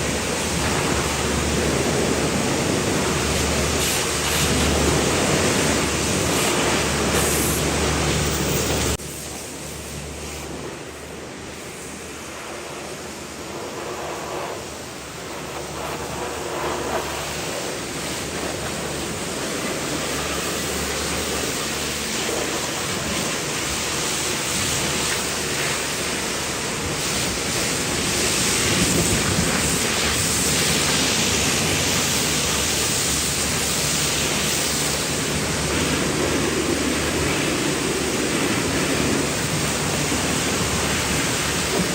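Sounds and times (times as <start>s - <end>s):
pressure washer spraying water: 0.0s - 41.9s.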